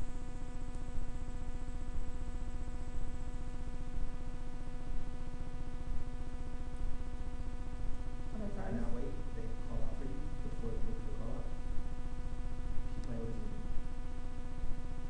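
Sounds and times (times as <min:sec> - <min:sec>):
steady buzzing hum: 0:00.0 - 0:15.0.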